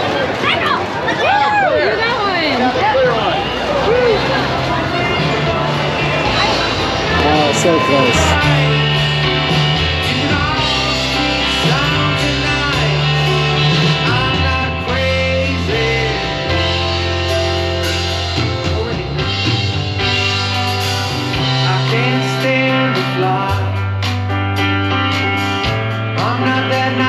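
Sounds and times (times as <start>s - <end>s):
rock song with singing: 2.8s - 27.0s.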